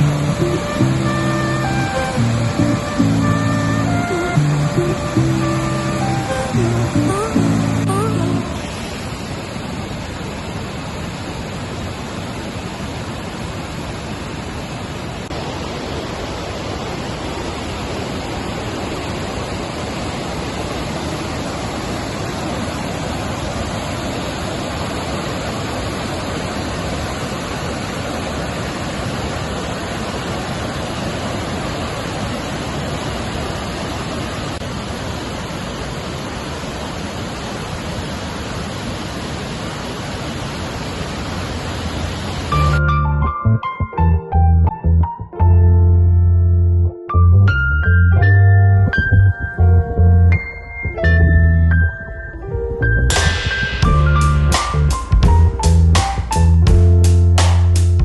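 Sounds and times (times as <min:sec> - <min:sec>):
steady rushing noise: 0:00.0 - 0:42.8, 0:49.4 - 0:58.0.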